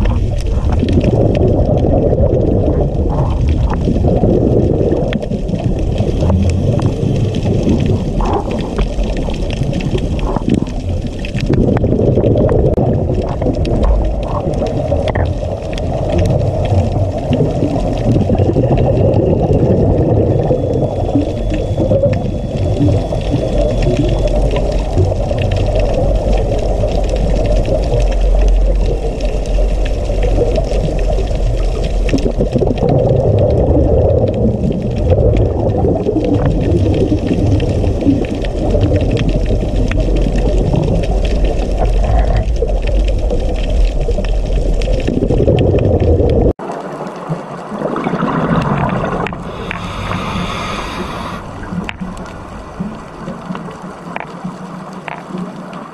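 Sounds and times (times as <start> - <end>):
muffled underwater rush: 0.0 - 55.9.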